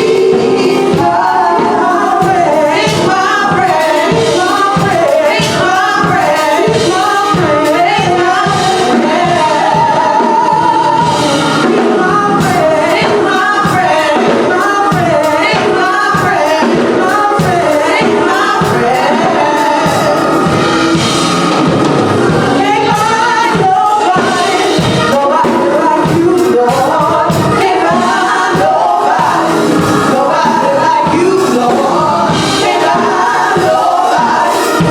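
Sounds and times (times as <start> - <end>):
gospel singers with band: 0.0 - 34.9.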